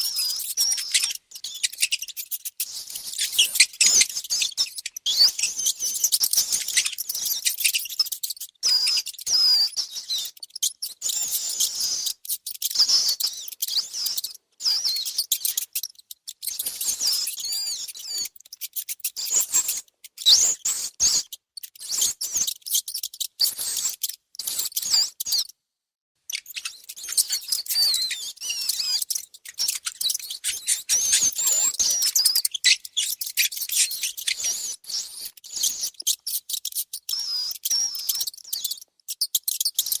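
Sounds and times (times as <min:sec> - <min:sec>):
mice squeaking: 0:00.0 - 0:25.5, 0:26.2 - 0:40.0.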